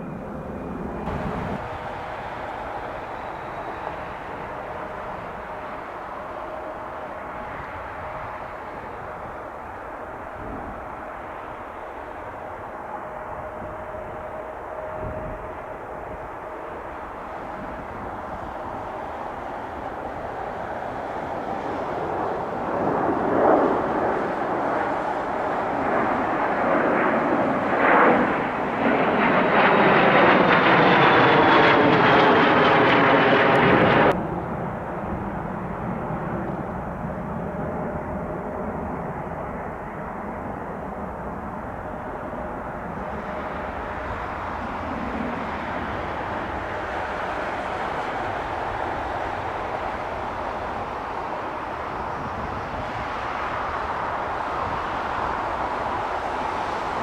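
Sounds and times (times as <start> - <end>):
jet airliner engines roaring: 0.0 - 57.0
jet engine whine falling in pitch: 0.0 - 57.0
steady jet rumble: 0.0 - 57.0.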